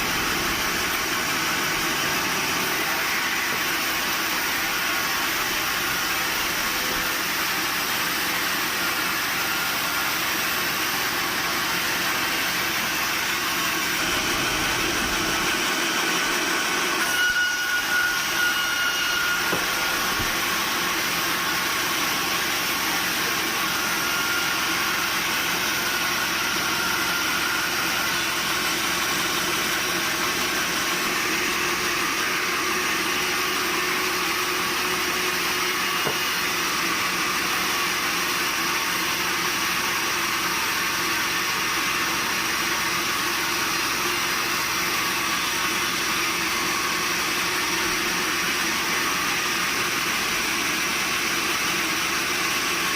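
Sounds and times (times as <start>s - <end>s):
sawmill machinery hum and hiss: 0.0s - 52.9s.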